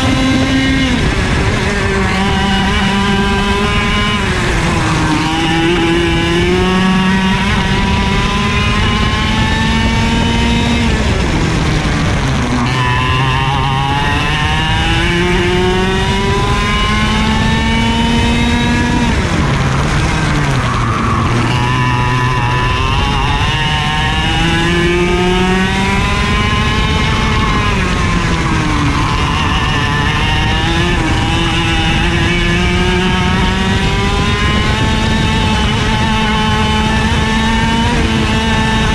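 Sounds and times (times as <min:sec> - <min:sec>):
kart engine revving: 0:00.0 - 0:38.9
wind rush: 0:00.0 - 0:38.9.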